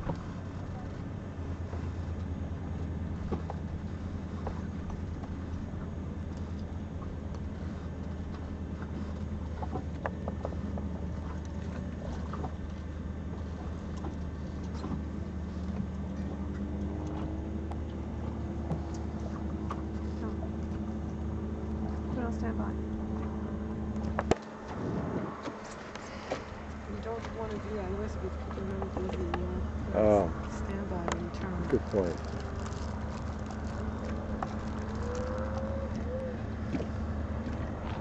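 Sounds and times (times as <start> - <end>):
boat engine drone: 0.0 - 38.0
water slapping hull: 0.0 - 38.0.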